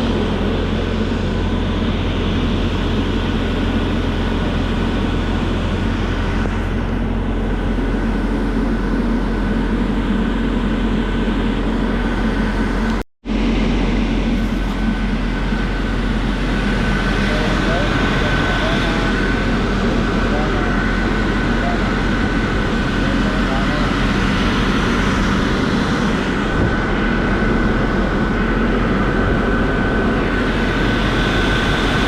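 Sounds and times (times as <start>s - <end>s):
bus engine drone: 0.0s - 32.0s.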